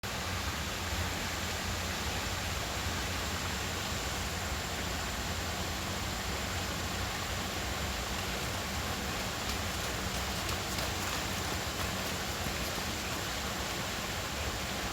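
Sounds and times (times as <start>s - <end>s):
river water flowing: 0.1s - 14.9s.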